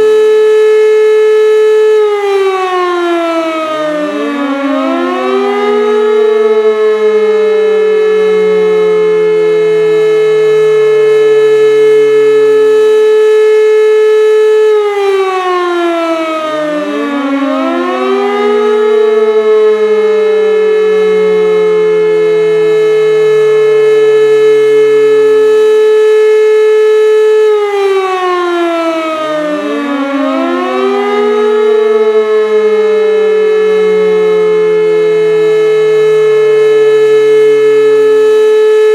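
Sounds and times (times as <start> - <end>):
air raid siren wailing: 0.0 - 38.9.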